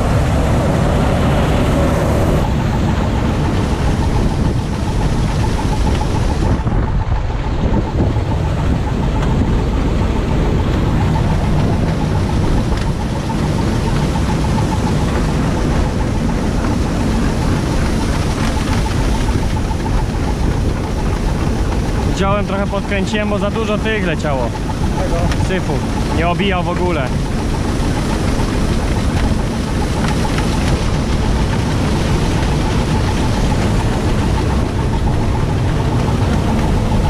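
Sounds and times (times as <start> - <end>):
combine harvester running: 0.0 - 37.0
faint steady whine: 0.0 - 37.0.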